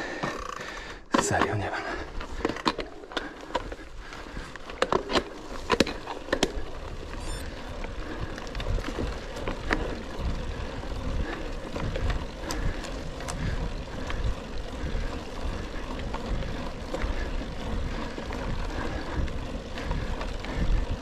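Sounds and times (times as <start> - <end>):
bike clacking and rattling: 0.0 - 21.0
tyre and wind rumble: 3.6 - 21.0.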